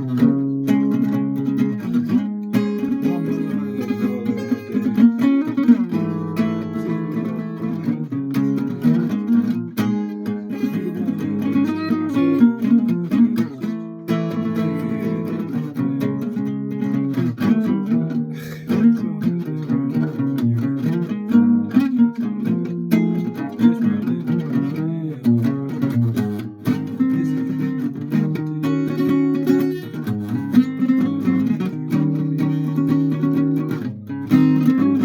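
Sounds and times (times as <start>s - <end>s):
guitar playing: 0.0s - 35.0s.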